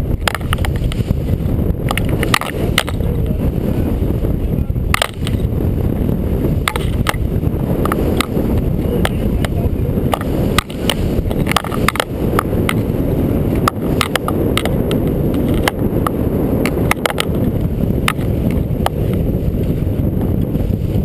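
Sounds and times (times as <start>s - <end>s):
boat hull water and wind rumble: 0.0s - 21.0s.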